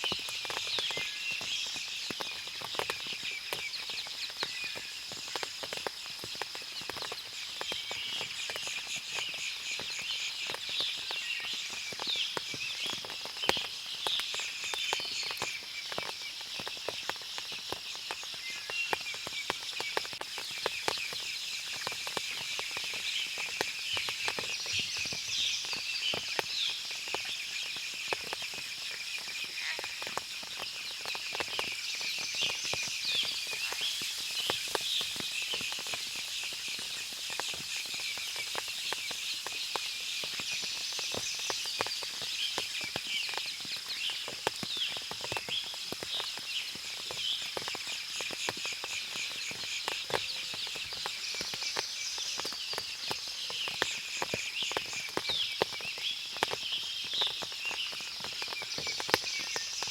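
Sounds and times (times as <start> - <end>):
water dripping from trees: 0.0 - 59.9
birds chirping: 6.3 - 59.9.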